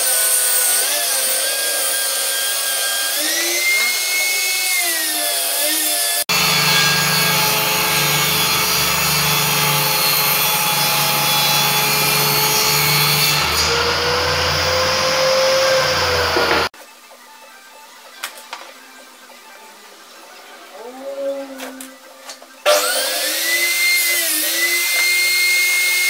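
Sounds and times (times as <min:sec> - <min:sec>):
table saw cutting wood: 0:00.0 - 0:16.7, 0:21.2 - 0:26.0.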